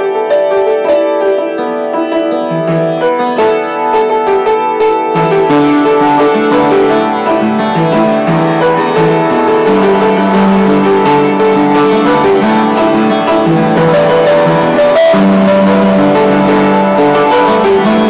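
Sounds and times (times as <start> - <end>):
upright piano melody: 0.0 - 18.0.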